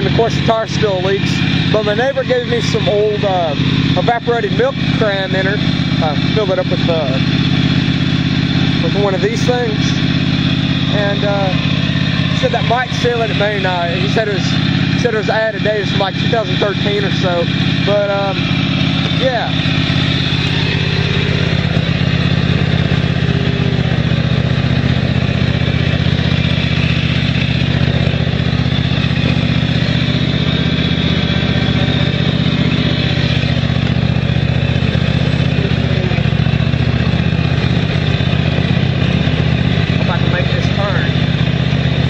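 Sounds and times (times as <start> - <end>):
riding mower engine running: 0.0 - 42.0.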